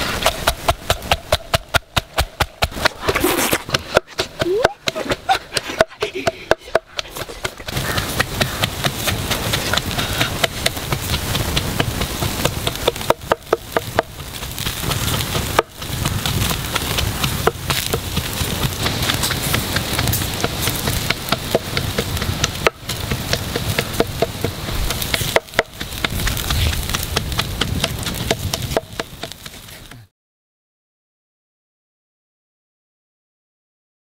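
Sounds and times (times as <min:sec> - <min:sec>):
wood fire crackling: 0:00.0 - 0:30.1
pestle pounding in mortar: 0:00.1 - 0:29.6.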